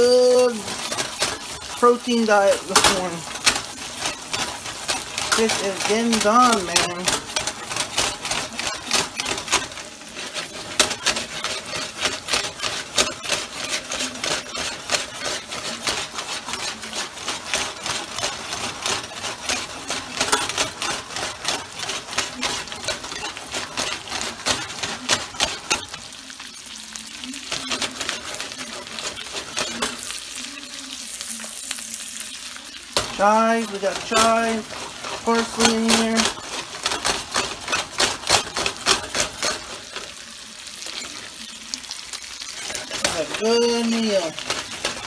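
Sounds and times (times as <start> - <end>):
fish sizzling in oil: 0.0 - 45.0.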